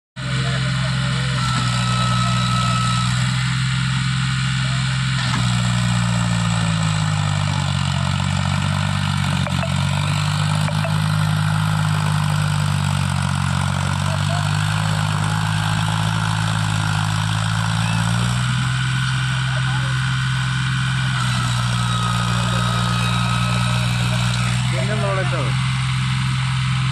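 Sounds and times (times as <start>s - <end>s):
tractor diesel engine running: 0.2s - 26.9s.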